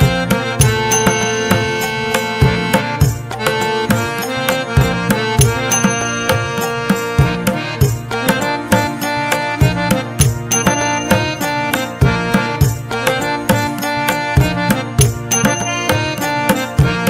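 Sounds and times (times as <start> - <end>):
hand drum beat: 0.0 - 17.0
sustained instrument melody: 0.0 - 17.0.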